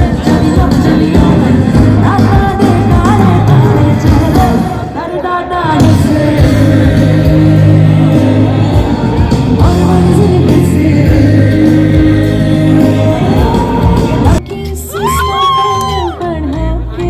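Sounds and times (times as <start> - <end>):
heavy bass notes: 0.0 - 4.9, 5.7 - 15.5
live band with singer: 0.0 - 17.0.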